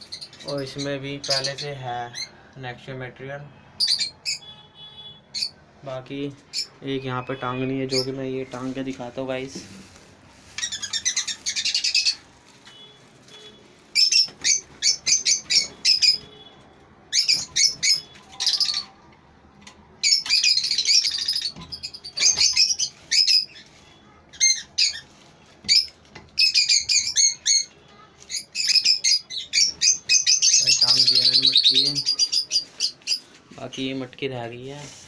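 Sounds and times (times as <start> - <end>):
lovebirds chattering: 0.0 - 2.4, 3.8 - 19.0, 20.0 - 35.0.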